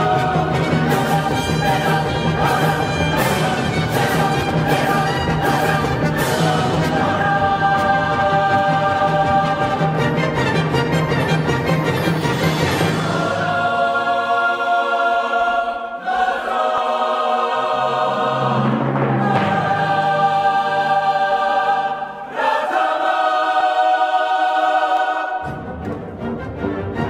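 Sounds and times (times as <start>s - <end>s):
choral chords: 0.0s - 27.0s.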